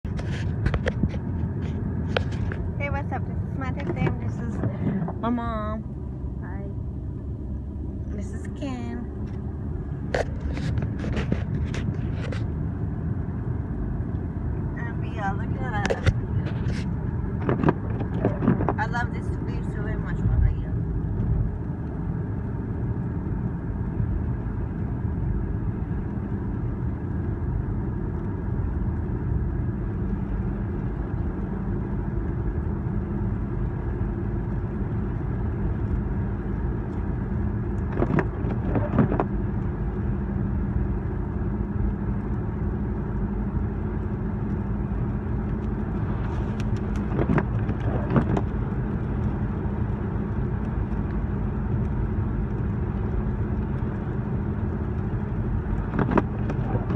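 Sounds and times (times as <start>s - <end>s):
car road and engine noise: 0.0s - 56.9s.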